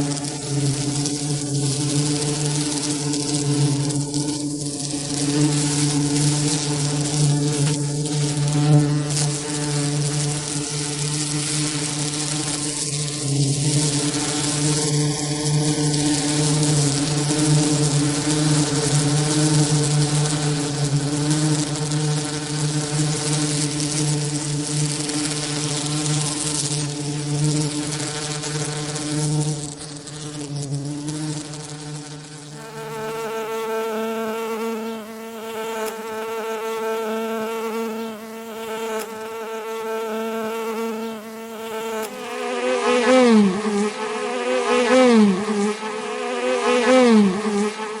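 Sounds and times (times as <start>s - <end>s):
bee buzzing in flight: 0.0s - 48.0s.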